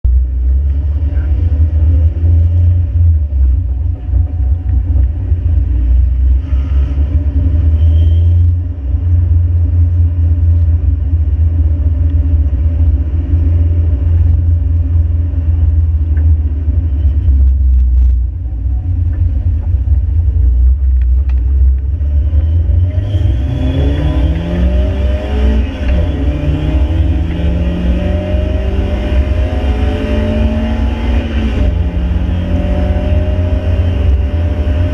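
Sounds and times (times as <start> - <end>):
car engine revving: 0.1 - 34.9.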